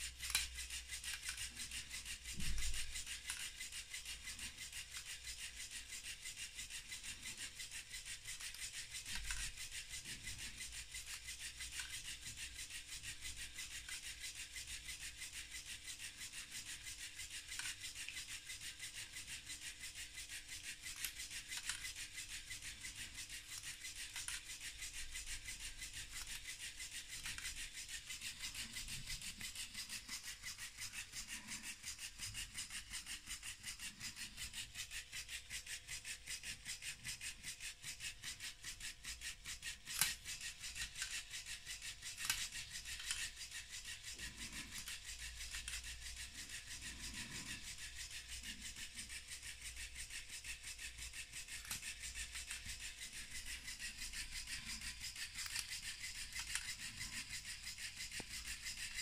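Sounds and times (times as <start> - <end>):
air compressor pumping: 0.0 - 59.0.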